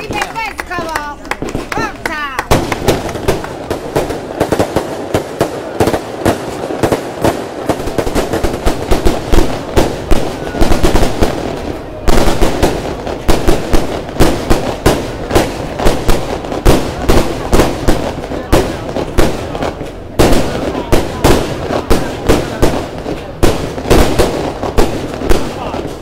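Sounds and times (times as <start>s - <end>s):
fireworks cracks and bangs: 0.0s - 26.0s.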